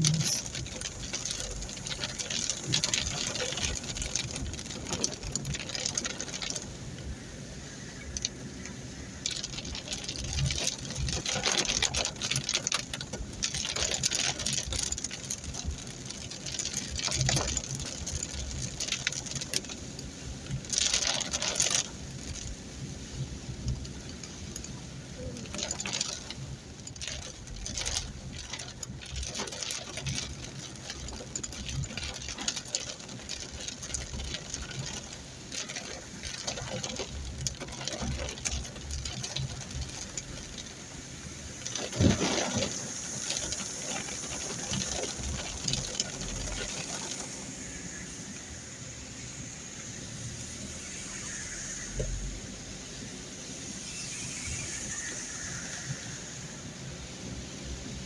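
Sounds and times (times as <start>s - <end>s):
heavy rain on road: 0.0s - 58.0s.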